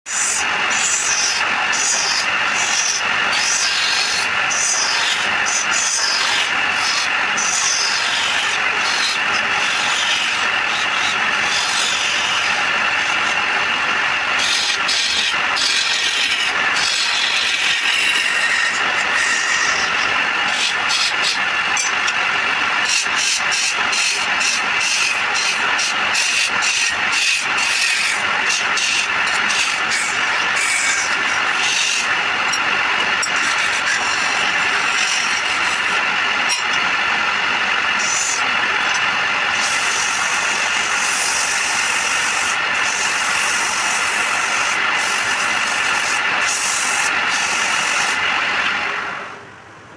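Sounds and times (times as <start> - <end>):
turning tool scraping wood: 0.1 - 48.2
wood lathe hum: 0.1 - 49.5.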